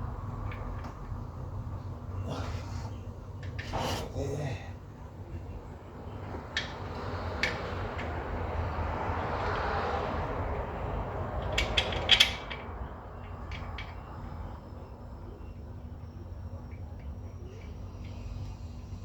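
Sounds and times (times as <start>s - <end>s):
low background rush: 0.0s - 19.0s.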